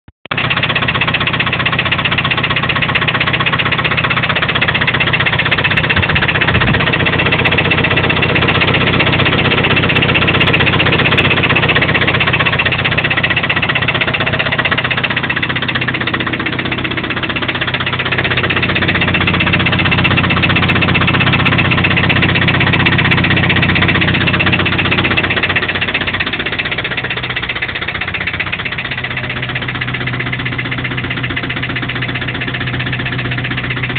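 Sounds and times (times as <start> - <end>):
engine running with fast knocking: 0.3 - 33.9.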